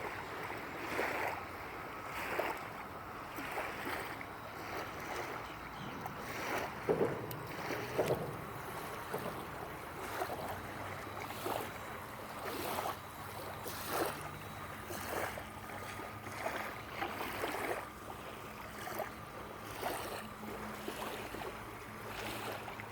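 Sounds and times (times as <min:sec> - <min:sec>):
steady low hum: 0:00.0 - 0:22.9
water lapping and splashing: 0:00.0 - 0:22.9.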